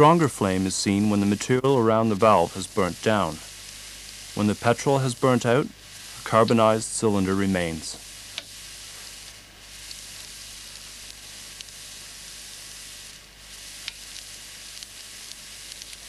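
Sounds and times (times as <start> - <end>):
fire burning with hissing rush: 0.0 - 16.0
fire crackles: 0.0 - 16.0.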